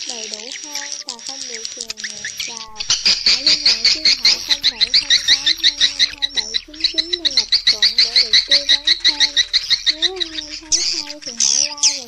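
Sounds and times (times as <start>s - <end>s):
music: 0.0s - 12.0s
swiftlets chirping twitters: 0.0s - 12.0s.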